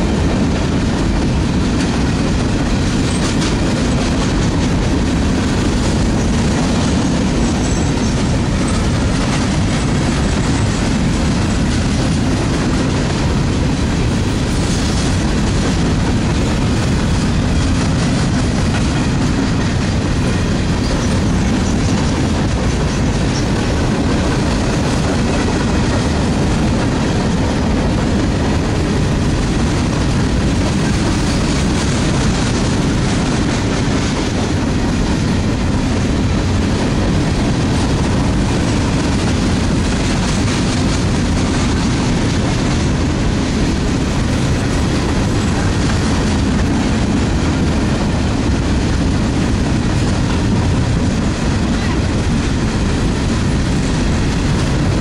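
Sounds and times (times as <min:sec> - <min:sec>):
clickety-clack over rail joints: 0:00.0 - 0:55.0
train wheels rumbling and rattling: 0:00.0 - 0:55.0.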